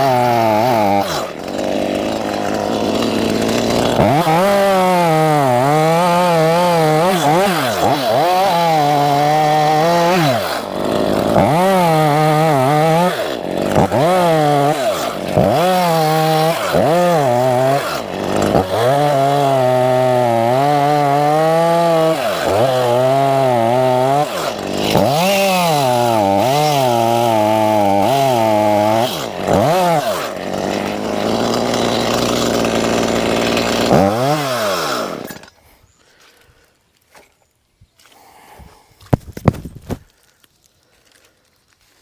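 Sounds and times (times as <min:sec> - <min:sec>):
chainsaw cutting bark: 0:00.0 - 0:35.7.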